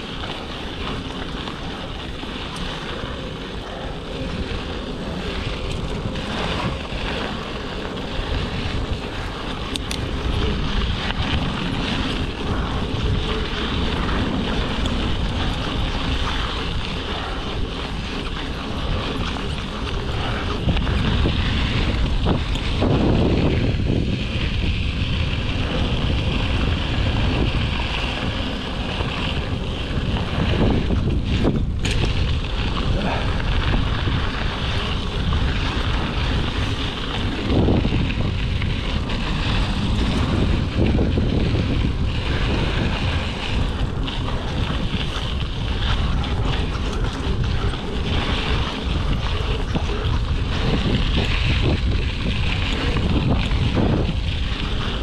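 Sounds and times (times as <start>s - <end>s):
bike tyres crunching on gravel: 0.0s - 55.0s
wind on microphone: 0.0s - 55.0s.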